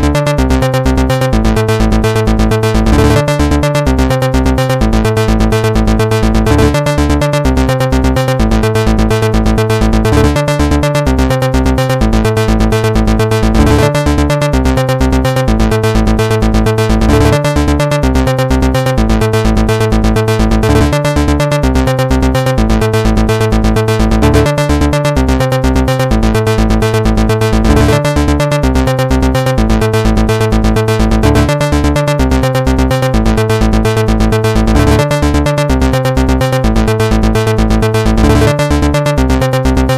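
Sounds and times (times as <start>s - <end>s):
electronic music with fast beat: 0.0s - 39.9s.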